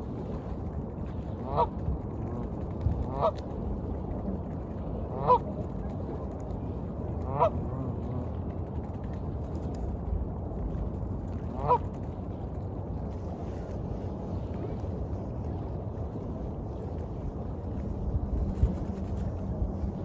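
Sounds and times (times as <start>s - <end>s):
waves washing: 0.0s - 20.0s.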